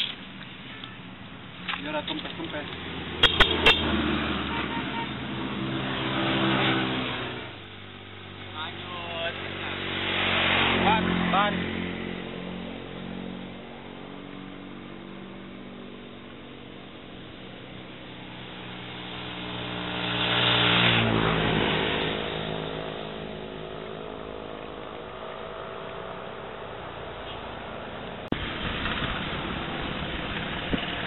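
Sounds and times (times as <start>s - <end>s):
traffic engines running: 0.0s - 31.0s
vehicle passing close: 1.8s - 31.0s.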